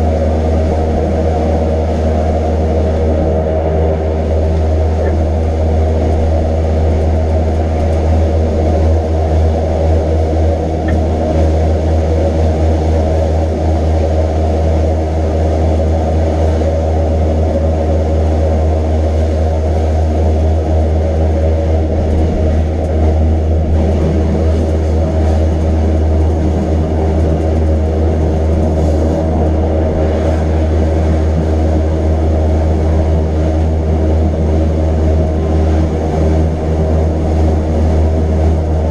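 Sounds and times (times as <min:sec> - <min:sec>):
electric train deep hum: 0:00.0 - 0:38.9
motor and gear drone: 0:00.0 - 0:38.9.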